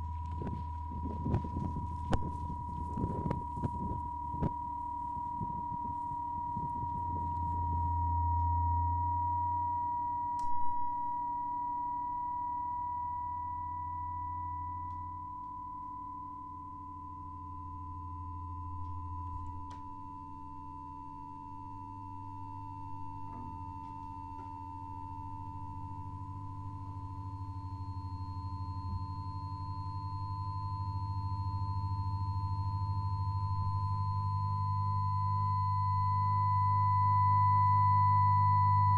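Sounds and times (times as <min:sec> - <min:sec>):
high pure drone tone: 0:00.0 - 0:38.9
low hum: 0:00.0 - 0:38.9.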